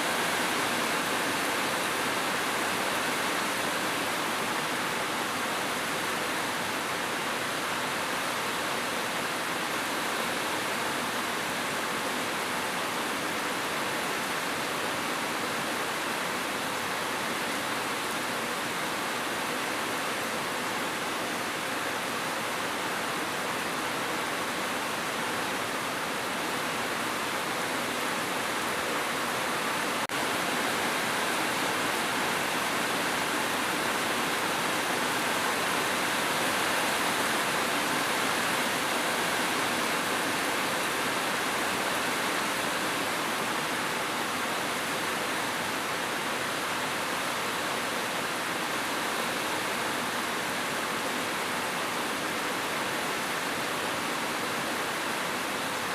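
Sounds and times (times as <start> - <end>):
heavy rain hiss: 0.0 - 55.9.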